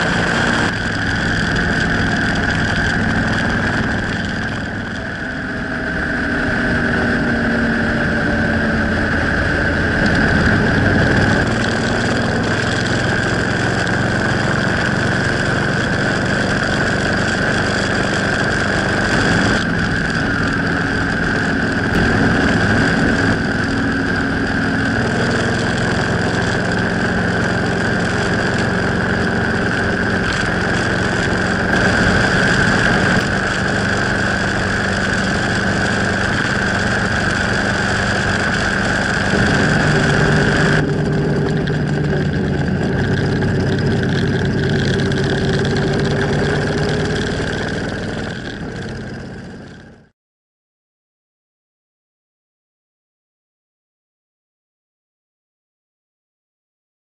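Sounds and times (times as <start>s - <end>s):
wind rushing over microphone: 0.0s - 49.5s
motorcycle engine cruising: 0.0s - 50.1s.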